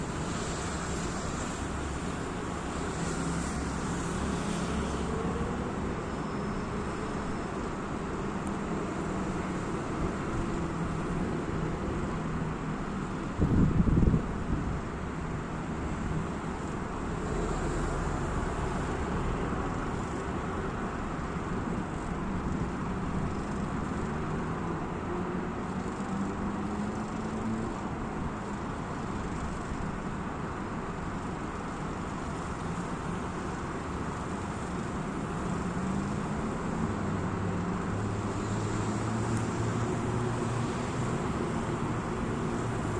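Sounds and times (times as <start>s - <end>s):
cars going by: 0.0s - 42.9s.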